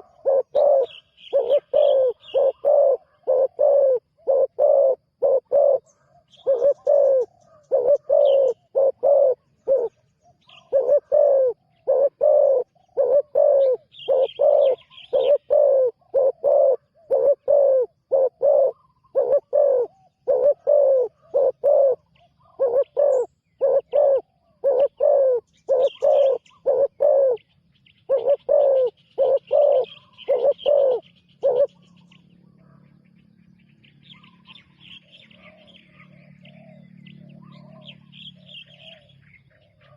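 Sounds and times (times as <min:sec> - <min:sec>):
dove cooing: 0:00.0 - 0:27.5, 0:28.1 - 0:32.8, 0:34.1 - 0:39.9
small birds chirping: 0:00.0 - 0:39.9.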